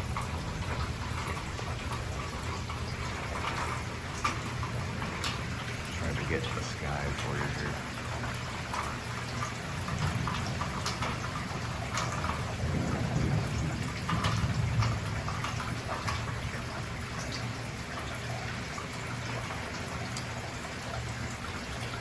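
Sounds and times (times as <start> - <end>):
sharp raindrop hits: 0.0 - 18.0
heavy rain: 0.0 - 22.0.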